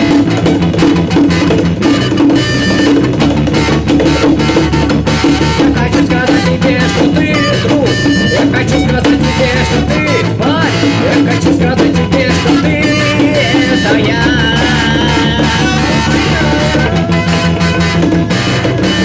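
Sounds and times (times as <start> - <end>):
bass line: 0.0 - 19.0
drum kit beat: 0.0 - 19.0
wavering melodic lines: 0.0 - 19.0.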